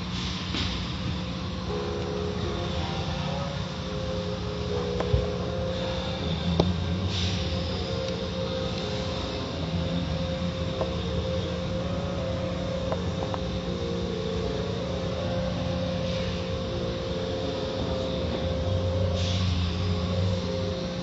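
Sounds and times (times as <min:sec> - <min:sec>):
car wash machine hum: 0:00.0 - 0:21.0.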